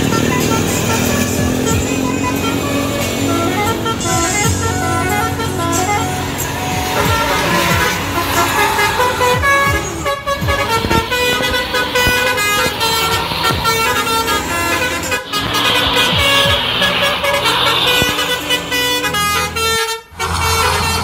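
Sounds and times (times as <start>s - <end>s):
bus engine running: 0.0s - 21.0s
musical bus horn playing tune: 0.0s - 21.0s.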